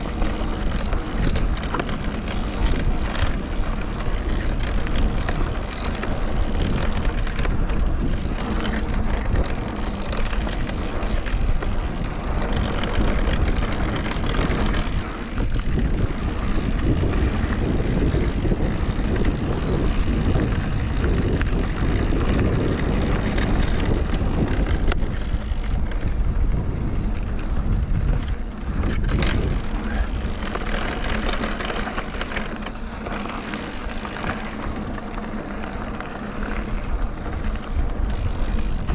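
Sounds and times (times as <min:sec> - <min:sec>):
bike clicking and rattling: 0:00.0 - 0:38.9
bike tyres on rocky trail: 0:00.0 - 0:38.9
wind on microphone: 0:00.0 - 0:38.9.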